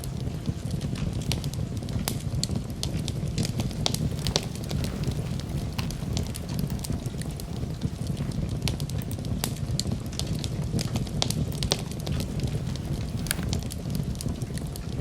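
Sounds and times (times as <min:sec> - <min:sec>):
burning wood crackling and popping: 0:00.0 - 0:15.0
low rush of flames: 0:00.0 - 0:15.0.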